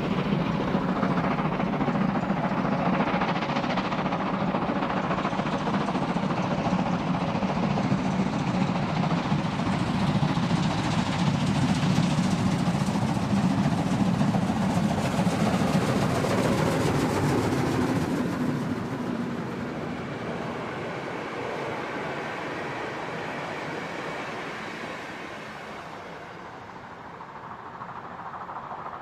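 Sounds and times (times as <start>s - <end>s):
steam locomotive passing: 0.0s - 29.0s
train coaches rolling by: 0.0s - 29.0s.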